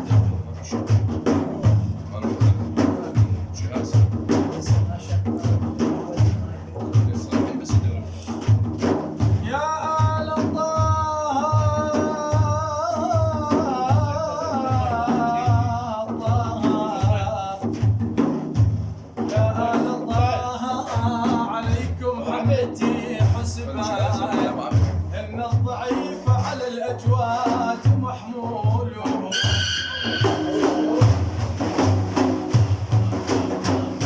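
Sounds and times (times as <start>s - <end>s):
steady drum beat: 0.0s - 34.0s.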